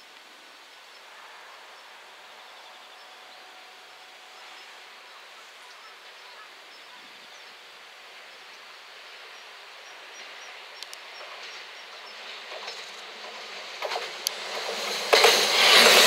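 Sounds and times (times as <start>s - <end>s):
insects: 0.0s - 16.0s
outdoor hiss: 0.0s - 16.0s
electric train approaching: 0.9s - 16.0s.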